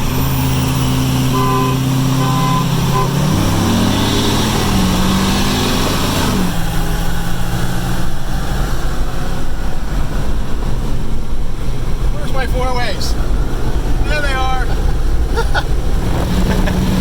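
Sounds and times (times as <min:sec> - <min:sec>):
pickup truck engine from inside cab: 0:00.0 - 0:17.0
road and wind noise: 0:00.0 - 0:17.0.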